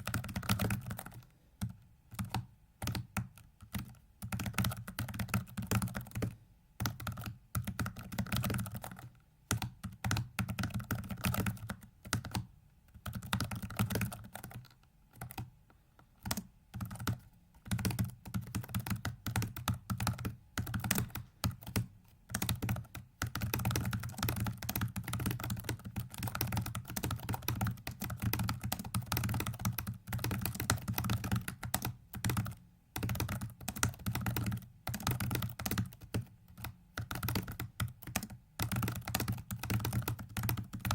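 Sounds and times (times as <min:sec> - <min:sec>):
keyboard keys clicking: 0:00.0 - 0:15.5, 0:16.2 - 0:40.9.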